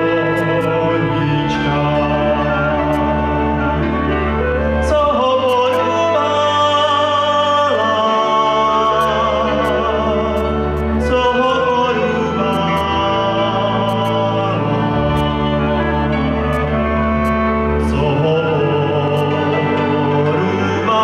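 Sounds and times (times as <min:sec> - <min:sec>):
double bass long notes: 0:00.0 - 0:21.0
folk band playing: 0:00.0 - 0:21.0
man singing: 0:00.0 - 0:21.0.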